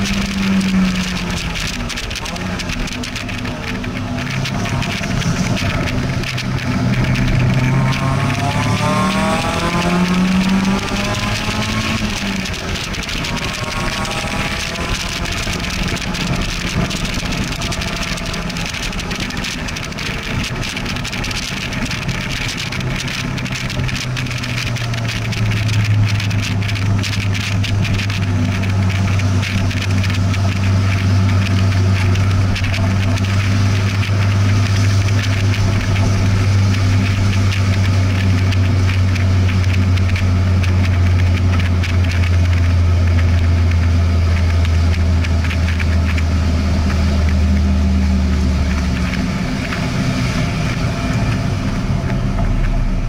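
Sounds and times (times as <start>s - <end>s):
car engine running: 0.0s - 53.0s
road noise: 0.0s - 53.0s.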